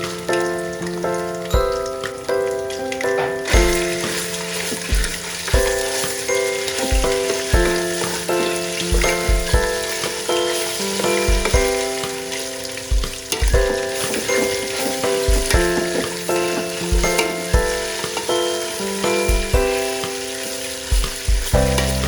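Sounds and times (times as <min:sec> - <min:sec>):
background music with steady beat: 0:00.0 - 0:22.0
food sizzling in frying: 0:00.0 - 0:22.0.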